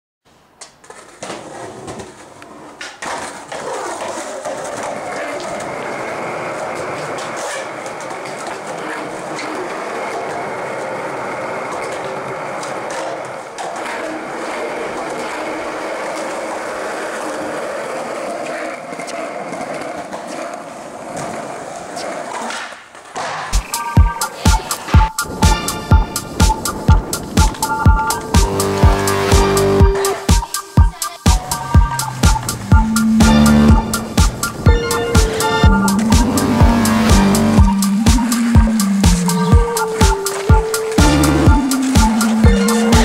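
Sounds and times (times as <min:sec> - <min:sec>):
skateboard wheels rolling on concrete: 0:00.3 - 0:43.0
skateboard clacks: 0:00.6 - 0:43.0.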